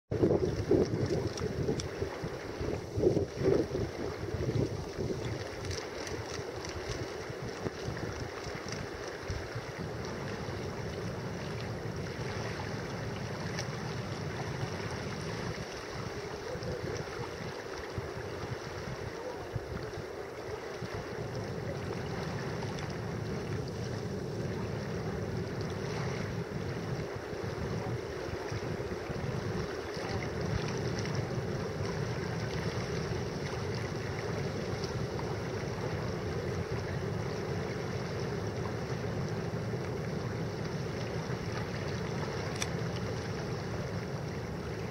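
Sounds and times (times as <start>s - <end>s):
distant surf: 0.1s - 44.9s
wind buffeting microphone: 0.1s - 44.9s.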